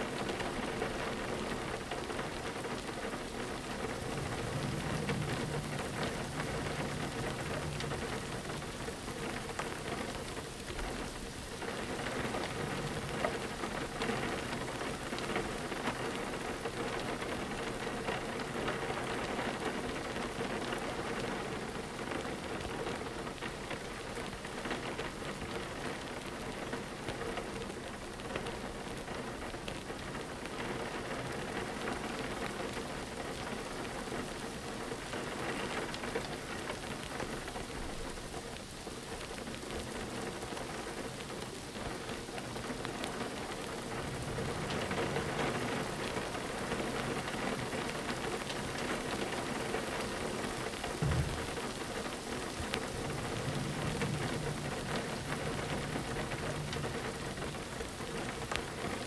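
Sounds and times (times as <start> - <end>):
rain pattering on window: 0.0 - 59.0.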